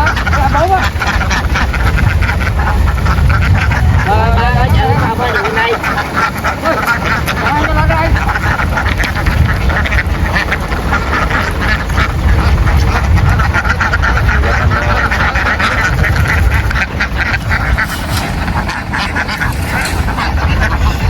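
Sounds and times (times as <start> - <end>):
ducks quacking: 0.0 - 21.0
steady low rumble: 0.0 - 21.0.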